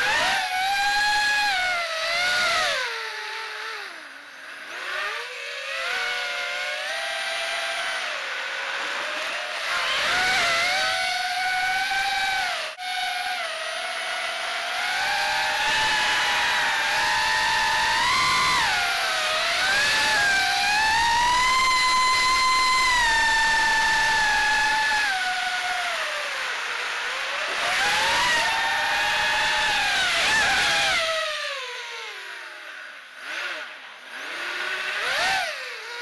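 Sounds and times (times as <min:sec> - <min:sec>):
quadcopter motors whining: 0:00.0 - 0:36.0.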